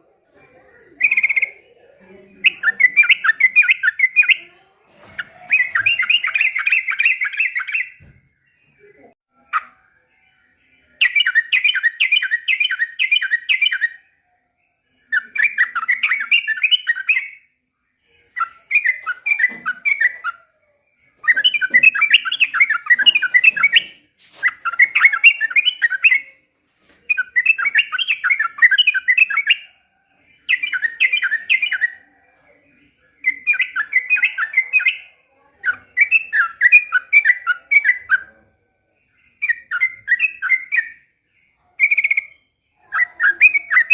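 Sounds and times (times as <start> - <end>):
bulbul singing: 0.0 - 43.9.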